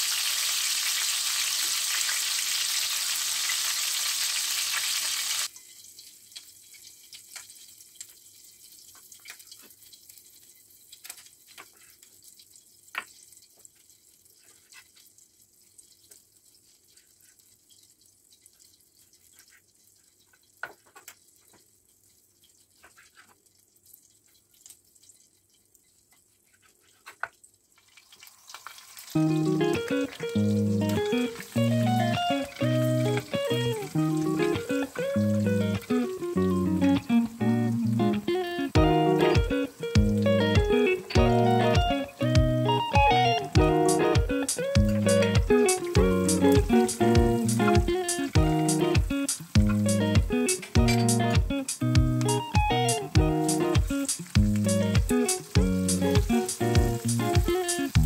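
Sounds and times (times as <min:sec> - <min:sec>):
steak sizzling in butter: 0:00.0 - 0:23.3, 0:27.8 - 0:58.0.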